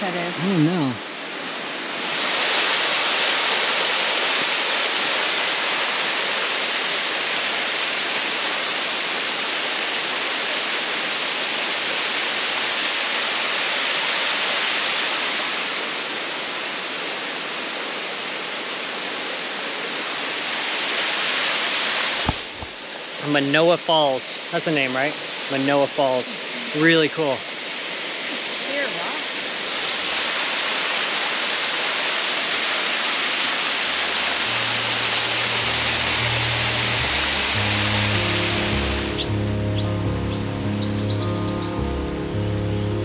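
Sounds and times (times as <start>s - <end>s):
waterfall rushing: 0.0s - 41.4s.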